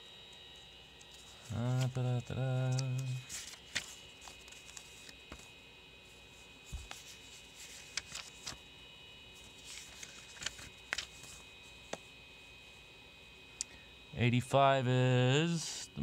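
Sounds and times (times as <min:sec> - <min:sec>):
computer hard drive whine: 0:00.0 - 0:16.0.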